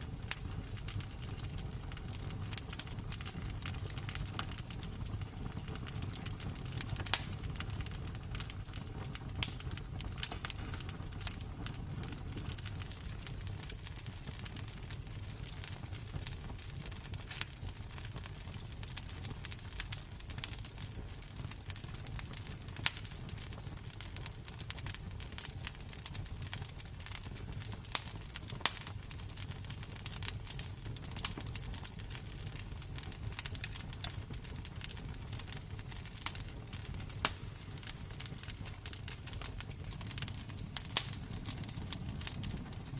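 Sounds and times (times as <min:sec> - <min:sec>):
low rumble of burning: 0:00.0 - 0:42.9
wood fire crackling: 0:00.0 - 0:42.9.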